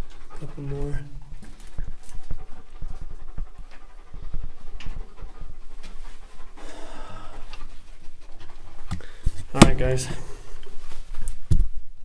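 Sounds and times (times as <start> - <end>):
dog panting: 0.0 - 11.5.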